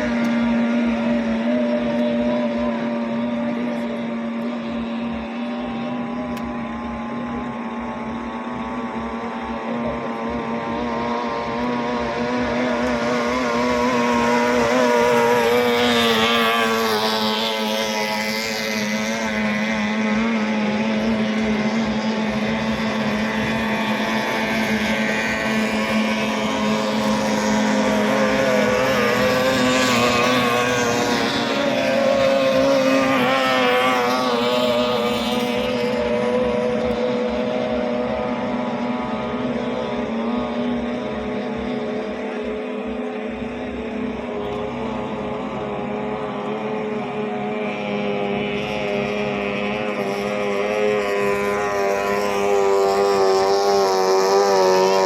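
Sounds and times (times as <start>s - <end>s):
outboard motors racing: 0.0s - 55.0s.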